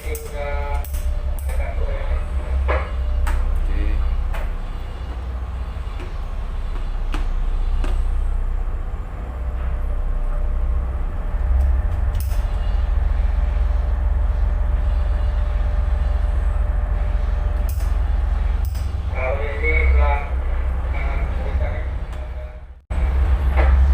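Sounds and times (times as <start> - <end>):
diesel engine rumbling: 0.0 - 23.9.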